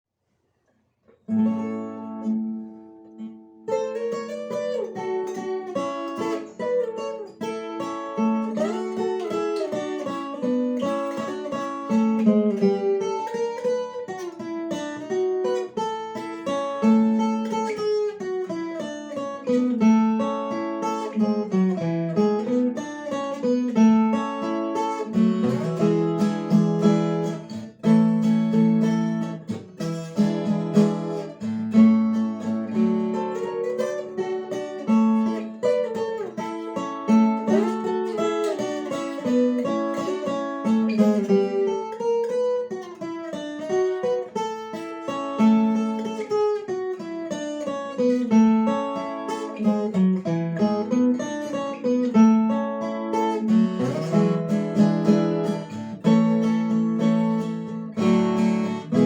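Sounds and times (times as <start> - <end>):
plucked acoustic string melody: 1.1 - 59.0.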